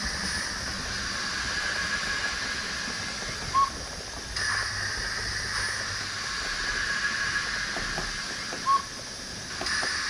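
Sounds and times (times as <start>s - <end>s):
model train rolling: 0.0s - 10.0s.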